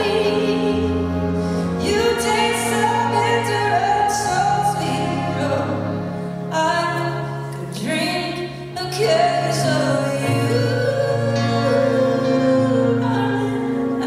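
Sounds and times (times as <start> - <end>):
woman singing: 0.0 - 1.2, 1.8 - 14.0
band accompaniment: 0.0 - 14.0.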